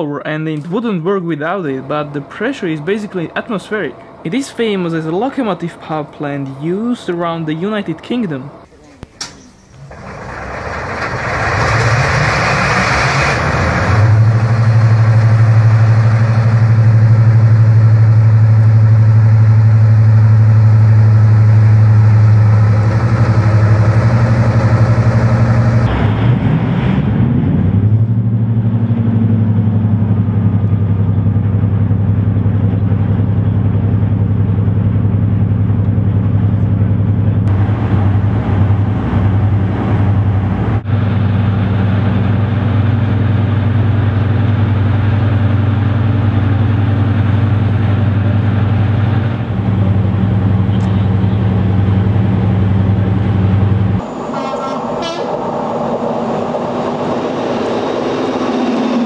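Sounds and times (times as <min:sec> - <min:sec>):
locomotive diesel engine drone: 0:00.0 - 0:59.0.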